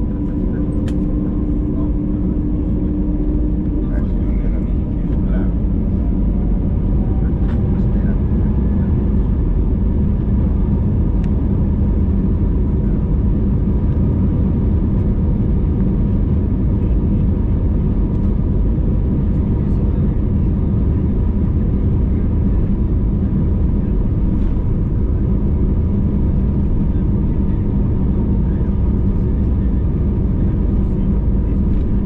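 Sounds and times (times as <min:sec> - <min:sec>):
airliner engines rumbling: 0:00.0 - 0:32.0
faint constant hum: 0:00.0 - 0:32.0.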